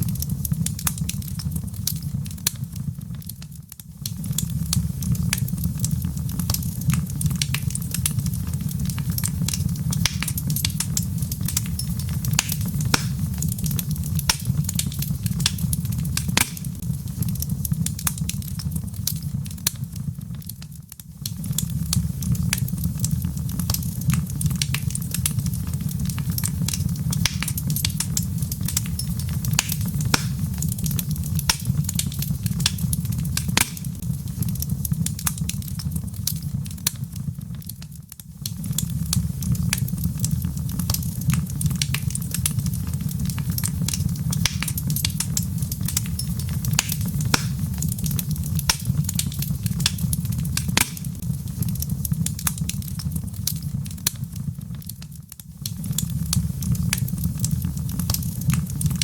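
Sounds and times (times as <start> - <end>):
logs crackling and popping: 0.0 - 59.0
low rumble of flame: 0.0 - 59.0.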